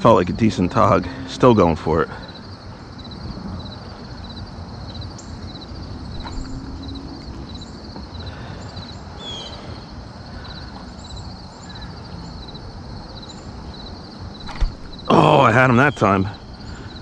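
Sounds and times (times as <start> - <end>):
insect chirping in pulses: 0.0 - 17.0
low outdoor rumble: 0.0 - 17.0
faint bird chirps: 2.2 - 17.0.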